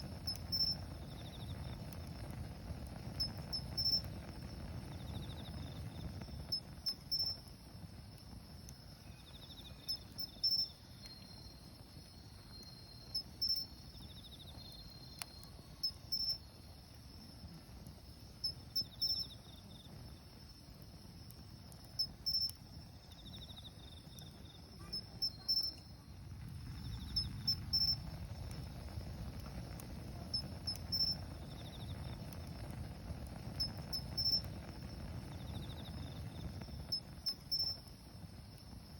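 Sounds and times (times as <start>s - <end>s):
crickets chirping: 0.0s - 38.9s
wood fire crackling: 0.0s - 38.9s
low insect trill: 0.1s - 2.4s, 3.0s - 38.9s.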